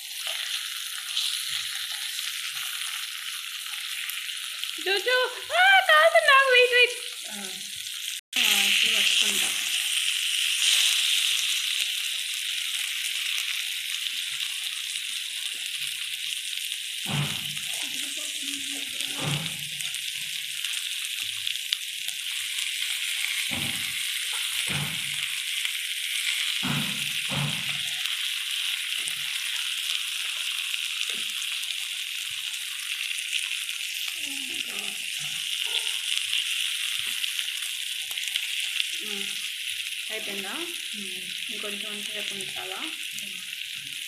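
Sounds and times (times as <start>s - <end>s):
fish sizzling in oil: 0.0s - 44.0s.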